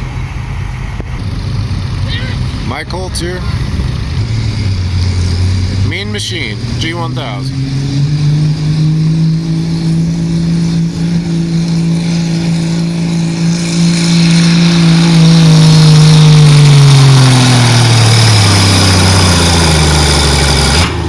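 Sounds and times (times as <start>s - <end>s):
tractor engine revving hard: 0.0s - 21.0s.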